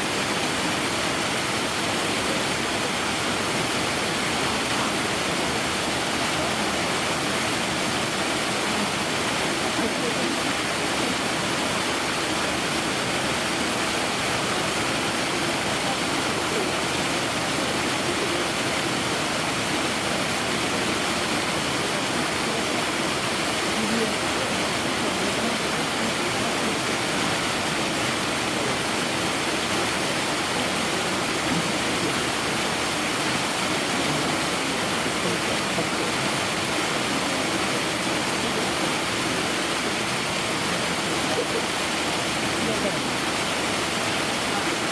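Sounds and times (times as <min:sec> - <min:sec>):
running water rushing: 0:00.0 - 0:44.9
faint murmur of voices: 0:00.1 - 0:44.9.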